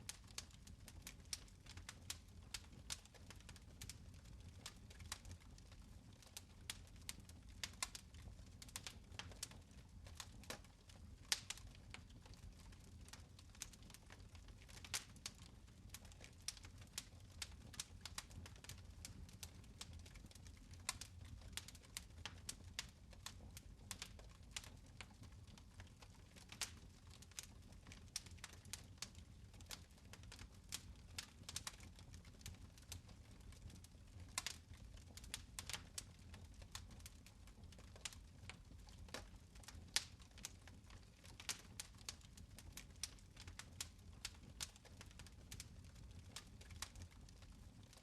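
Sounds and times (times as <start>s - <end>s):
fire crackling and popping: 0.0s - 48.0s.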